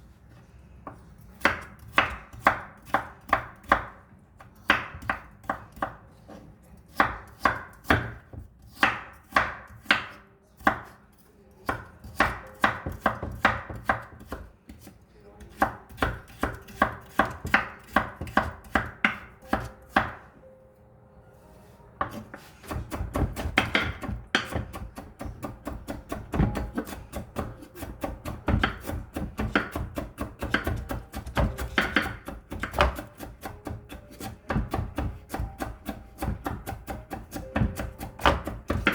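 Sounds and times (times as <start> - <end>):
knife chopping vegetables: 0.9 - 20.3, 22.0 - 38.9.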